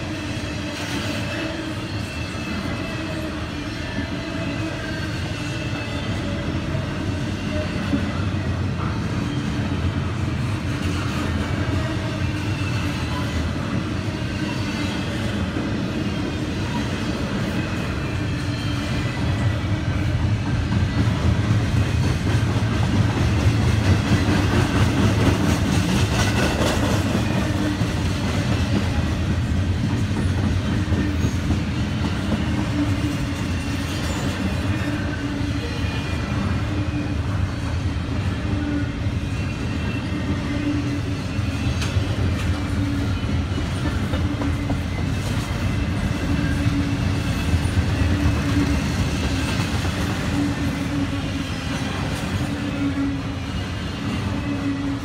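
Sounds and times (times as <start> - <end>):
freight cars rolling on rails: 0.0 - 55.0.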